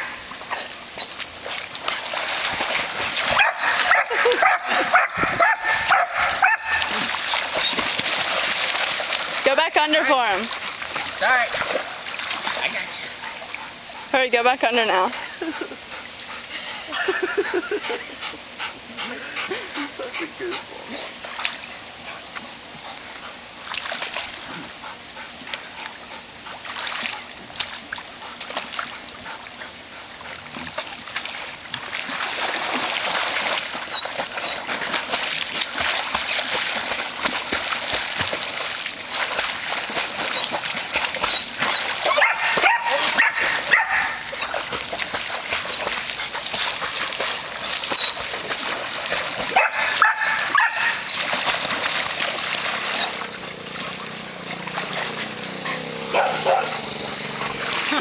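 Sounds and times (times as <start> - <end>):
dog paddling and splashing: 0.0 - 58.0.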